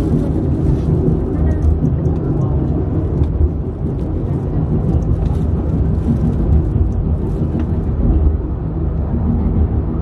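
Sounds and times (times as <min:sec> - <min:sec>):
funicular car rumbling on rails: 0:00.0 - 0:10.0.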